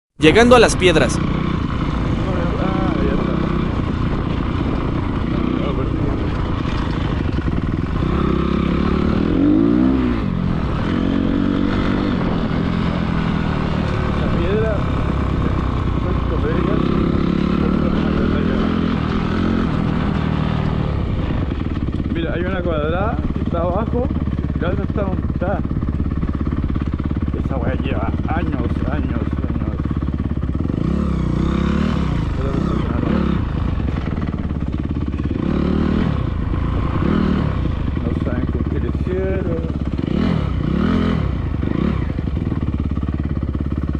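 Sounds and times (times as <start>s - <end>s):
dirt bike engine revving: 0.3s - 43.9s.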